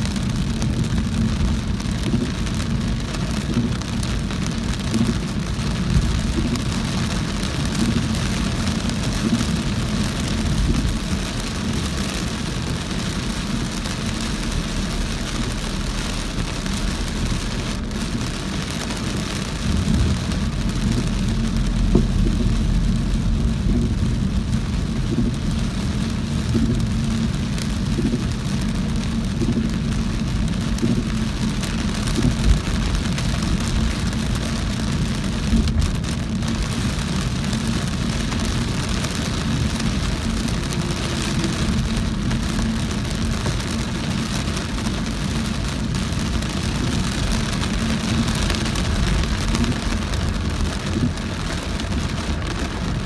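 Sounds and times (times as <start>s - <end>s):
car engine rumble: 0.0s - 53.0s
heavy rain drumming on car: 0.0s - 53.0s
tyres on wet road: 0.0s - 53.0s.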